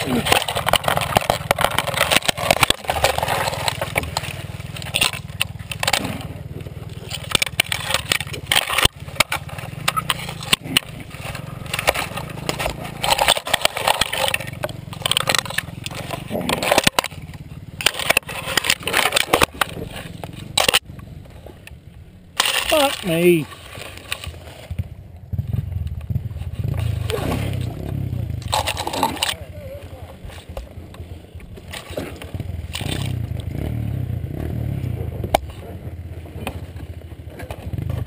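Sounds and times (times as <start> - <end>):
branches scraping helmet camera: 0.0 - 38.0
dirt bike engine idling: 0.0 - 38.0.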